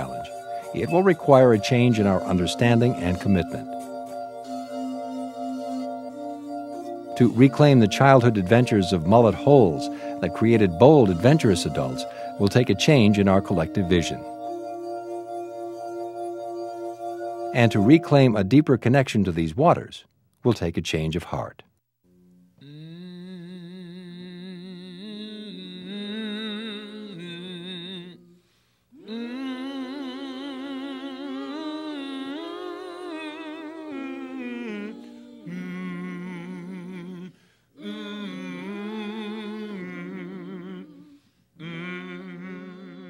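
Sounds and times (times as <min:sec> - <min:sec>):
person humming a slow tune: 0:00.0 - 0:18.8, 0:22.3 - 0:43.0.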